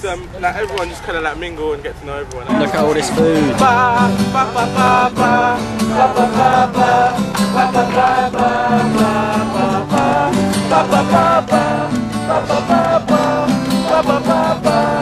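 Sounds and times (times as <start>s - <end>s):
acoustic guitars strumming: 2.5s - 15.0s
person singing: 2.5s - 15.0s.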